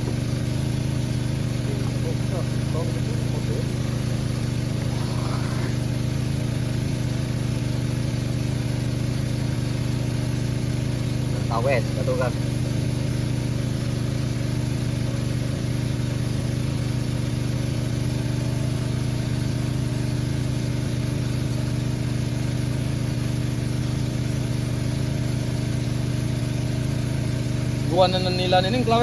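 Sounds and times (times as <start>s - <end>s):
water pump engine running: 0.0s - 29.0s.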